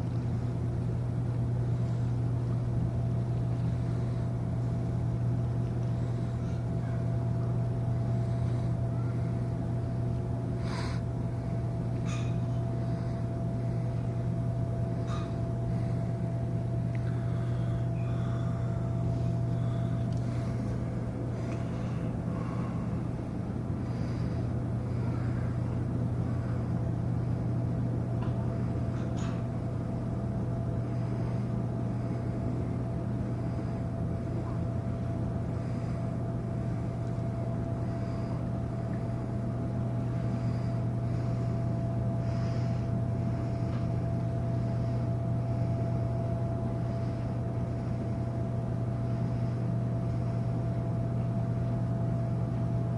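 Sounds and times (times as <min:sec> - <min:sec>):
ship machinery hum: 0:00.0 - 0:52.9
thin steady whine: 0:00.0 - 0:52.9.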